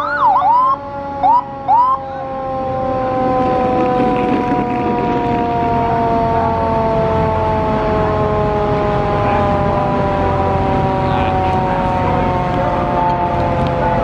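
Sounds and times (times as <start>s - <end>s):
fire truck siren winding down: 0.0s - 14.0s.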